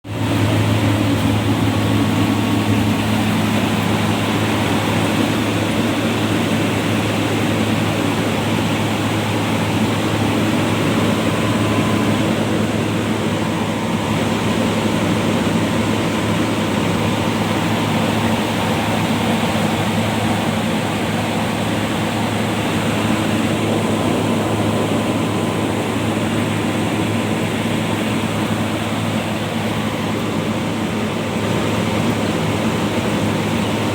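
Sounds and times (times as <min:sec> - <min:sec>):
dryer blower droning: 0:00.0 - 0:33.9.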